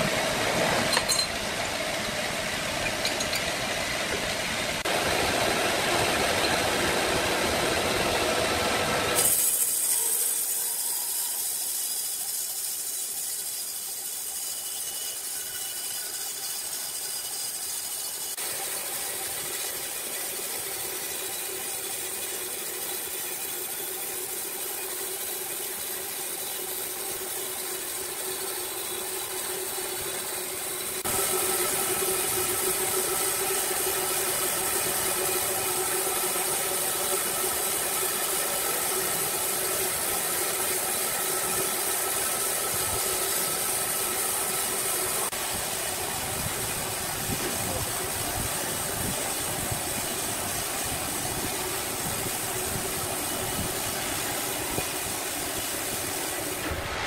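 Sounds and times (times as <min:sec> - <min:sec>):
band saw cutting a log: 0:00.0 - 0:57.0.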